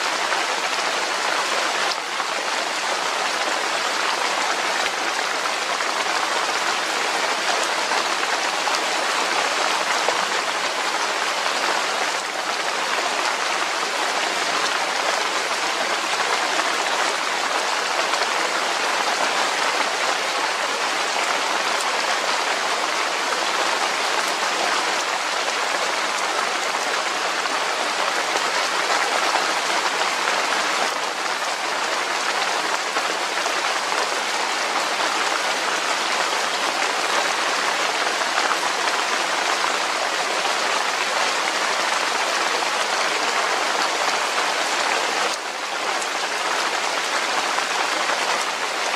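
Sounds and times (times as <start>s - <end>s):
rain falling on leaves: 0.0s - 48.9s.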